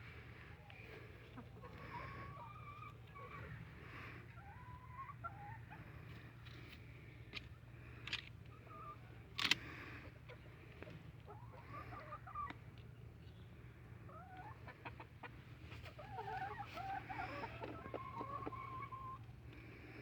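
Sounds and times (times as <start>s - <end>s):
hens clucking: 0.4s - 6.7s, 8.4s - 12.9s, 13.9s - 19.6s.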